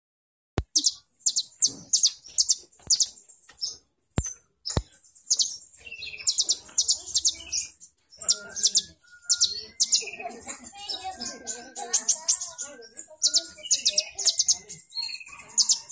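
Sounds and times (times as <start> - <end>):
bird chirping high-pitched: 0.6 - 15.9.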